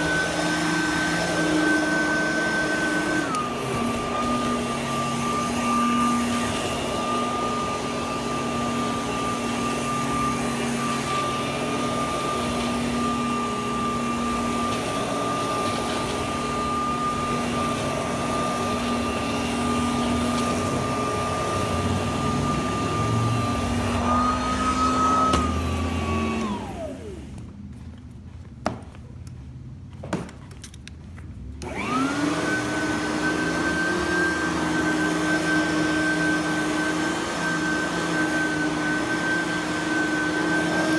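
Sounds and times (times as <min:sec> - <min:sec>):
vacuum cleaner motor whine: 0:00.0 - 0:27.5, 0:31.6 - 0:40.9.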